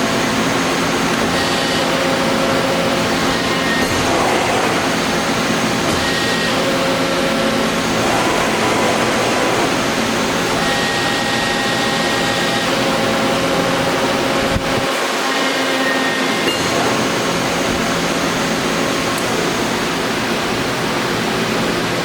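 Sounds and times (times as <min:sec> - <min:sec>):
press brake machine whining: 0:00.3 - 0:18.1.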